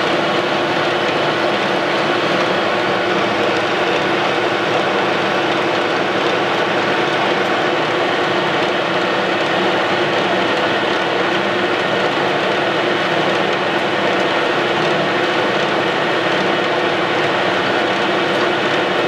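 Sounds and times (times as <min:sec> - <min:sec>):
metal lathe turning metal: 0:00.0 - 0:19.0.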